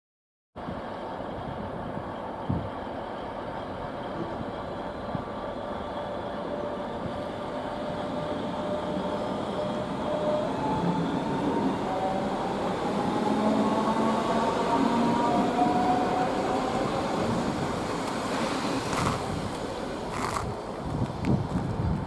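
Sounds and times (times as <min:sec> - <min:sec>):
train running on rails: 0:00.6 - 0:22.0.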